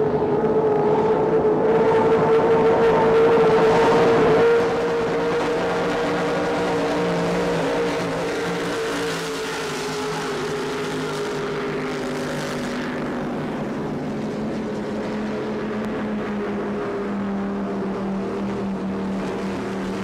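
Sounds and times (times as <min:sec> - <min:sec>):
powerboat engines droning: 0:00.0 - 0:20.0
wind: 0:00.0 - 0:20.0.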